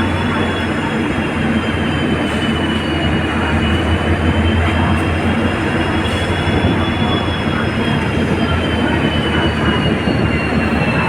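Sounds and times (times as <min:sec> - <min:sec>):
diesel locomotive engine hum: 0:00.0 - 0:11.0.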